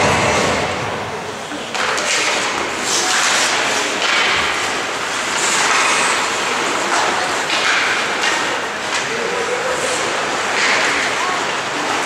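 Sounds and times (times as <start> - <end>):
hockey sticks and puck knocks: 1.6 - 12.0
skate blades scraping ice: 1.6 - 12.0.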